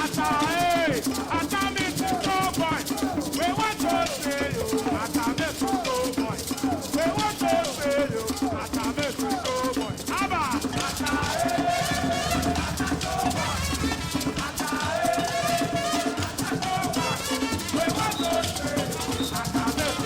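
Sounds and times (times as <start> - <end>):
shaker and drum rhythm: 0.0 - 20.0.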